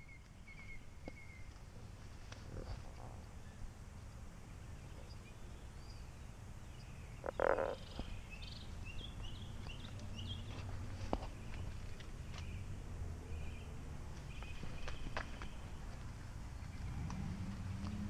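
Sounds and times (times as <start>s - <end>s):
small birds chirping: 0.0s - 1.8s, 4.4s - 17.2s.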